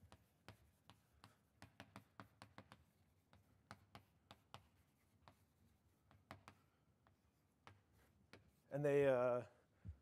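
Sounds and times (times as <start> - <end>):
chalk tapping on blackboard: 0.0 - 8.7.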